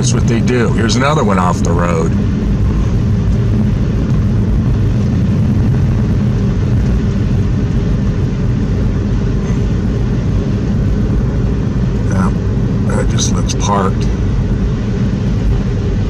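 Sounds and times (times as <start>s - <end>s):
car driving interior rumble: 0.0s - 16.0s.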